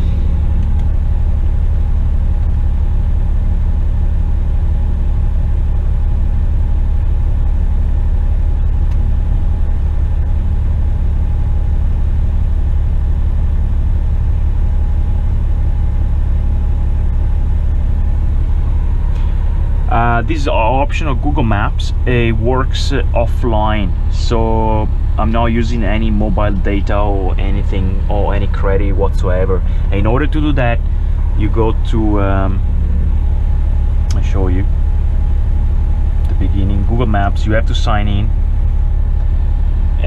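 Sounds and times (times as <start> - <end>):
faint steady whine: 0.0 - 40.0
truck diesel engine rumble: 0.0 - 40.0.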